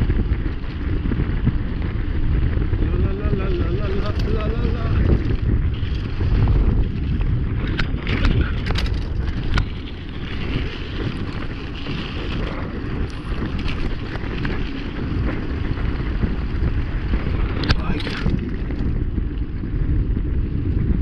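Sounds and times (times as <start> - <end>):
bike clicks and rattles: 0.0 - 21.0
bike tyres rolling on concrete: 0.0 - 21.0
wind over microphone: 0.0 - 21.0.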